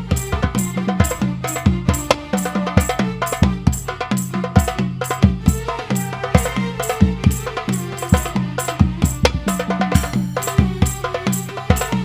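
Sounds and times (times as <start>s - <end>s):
deep bass-drum beats: 0.0s - 12.0s
frame drums fast rhythm: 0.0s - 12.0s
sharp drum slaps: 0.0s - 12.0s.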